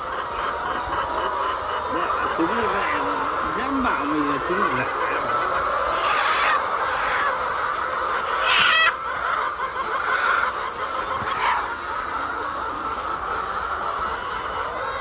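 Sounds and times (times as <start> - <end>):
hens clucking: 0.0 - 15.0
loud high hen call: 0.0 - 15.0.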